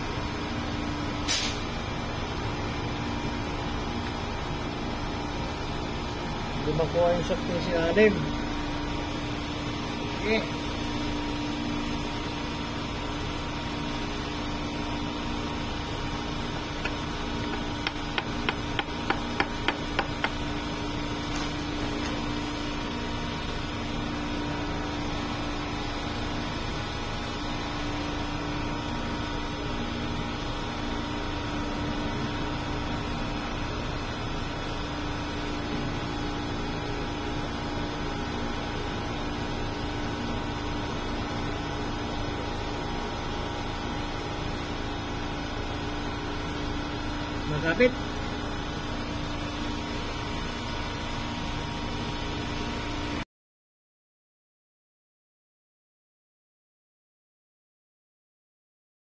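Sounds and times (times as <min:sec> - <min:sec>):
motor or fan humming: 0:00.0 - 0:53.2.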